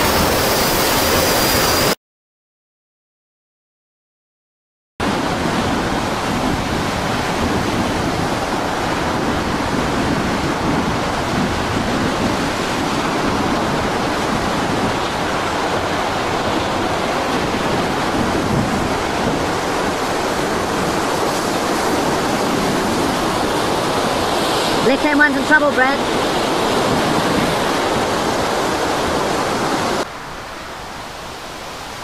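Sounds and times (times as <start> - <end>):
heavy seas breaking over boat: 0.0 - 2.0, 5.0 - 32.0
storm wind roaring: 0.0 - 2.0, 5.0 - 32.0.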